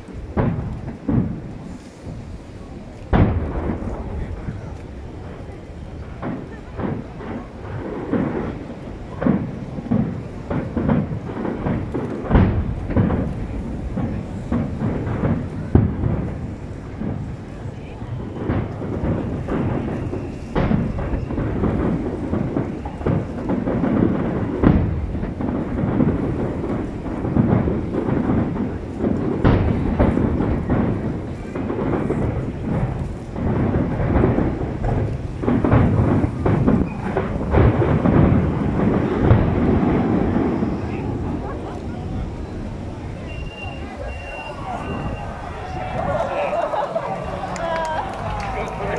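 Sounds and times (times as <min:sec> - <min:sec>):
firework shells booming: 0:00.0 - 0:48.9.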